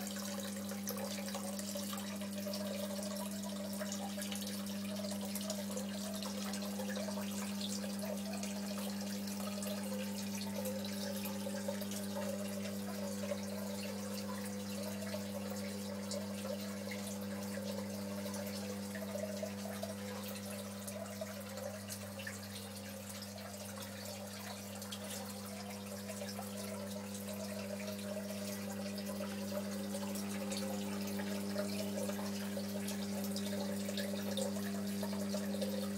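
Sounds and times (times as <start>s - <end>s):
pump electric hum: 0.0s - 35.9s
water trickling and splashing: 0.0s - 35.9s.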